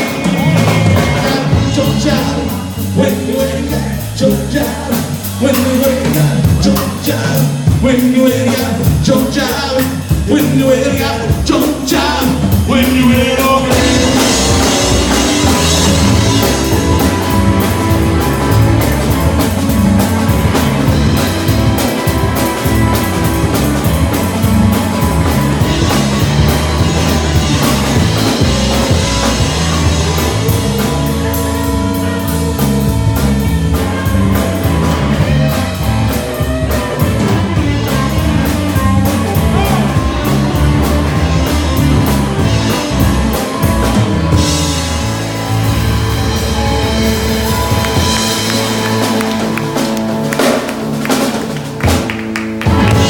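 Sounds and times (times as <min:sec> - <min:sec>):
blues band playing: 0:00.0 - 0:53.0
drum kit steady beat: 0:00.0 - 0:53.0
electric guitar: 0:00.0 - 0:53.0.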